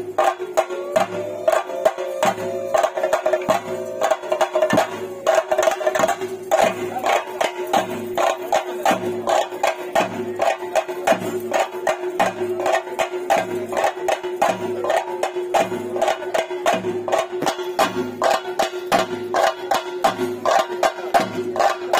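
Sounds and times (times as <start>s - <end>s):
drums beaten in fast rhythm: 0.0s - 21.9s.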